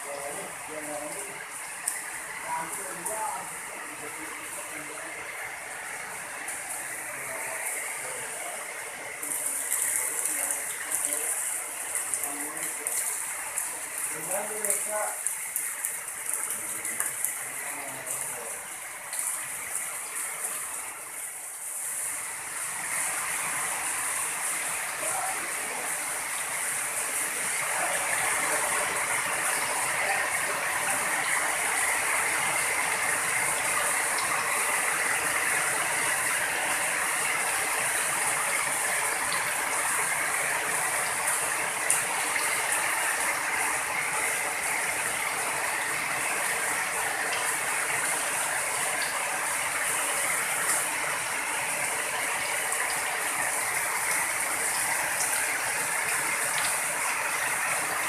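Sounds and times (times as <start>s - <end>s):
heavy rain falling: 0.0s - 58.0s
water rushing along drainage channel: 0.0s - 58.0s.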